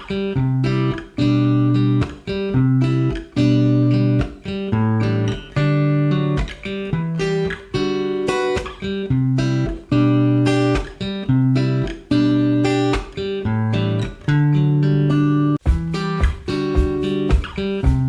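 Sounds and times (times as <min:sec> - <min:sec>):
plucked acoustic guitar melody: 0:00.0 - 0:18.0.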